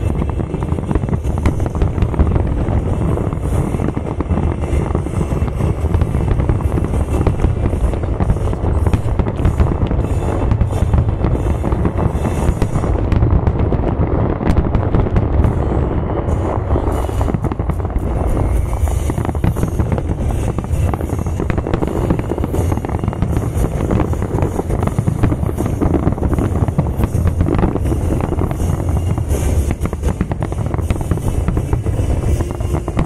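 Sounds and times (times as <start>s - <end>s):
fireworks booming: 0.0s - 33.0s
fireworks crackling: 0.0s - 33.0s.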